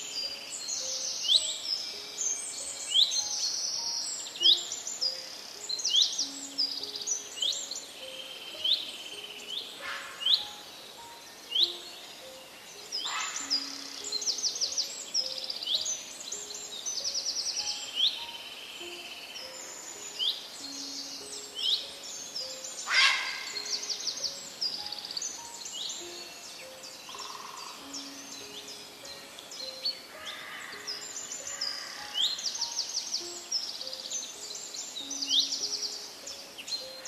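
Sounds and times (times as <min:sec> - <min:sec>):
many birds chirping and trilling: 0:00.0 - 0:37.0.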